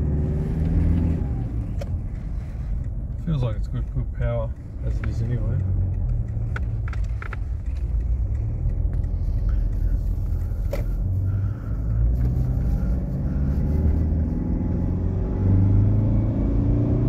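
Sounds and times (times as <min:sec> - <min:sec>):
diesel engine inside car cabin: 0:00.0 - 0:17.0
road noise: 0:00.0 - 0:17.0.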